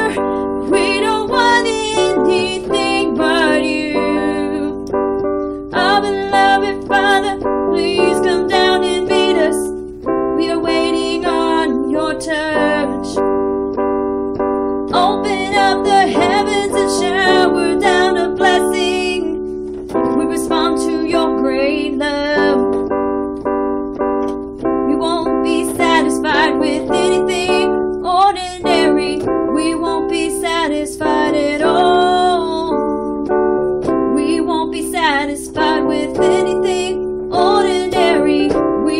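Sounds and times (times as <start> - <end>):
woman singing: 0.0 - 4.9, 5.7 - 9.8, 10.4 - 13.2, 14.9 - 22.8, 24.9 - 33.0, 34.1 - 38.9
sustained keyboard chords: 0.0 - 38.9.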